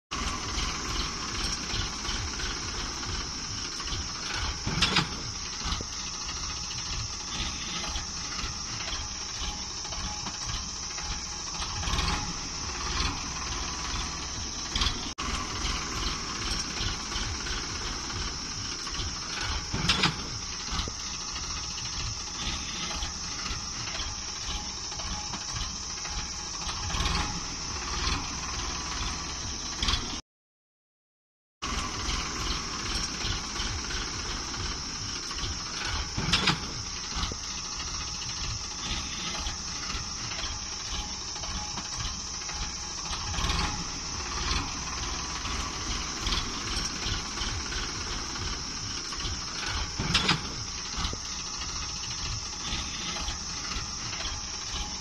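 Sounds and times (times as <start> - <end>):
tractor diesel engine chugging: 0.1 - 30.2, 31.6 - 55.0.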